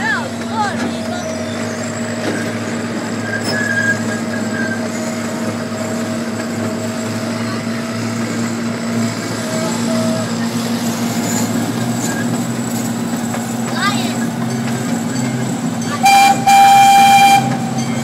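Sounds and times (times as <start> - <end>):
small train engine hum: 0.0 - 18.0
train rumble: 0.0 - 18.0.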